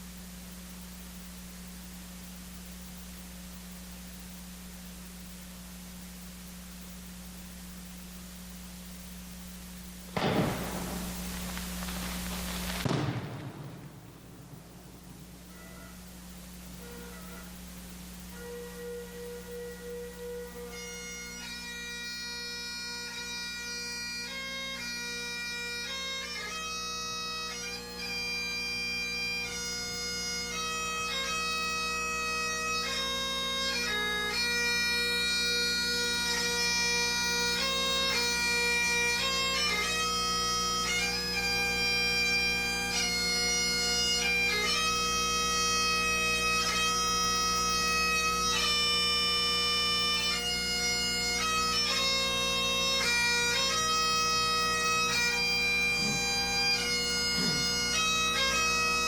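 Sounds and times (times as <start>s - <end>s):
bagpipe playing slow melody: 10.0s - 59.0s.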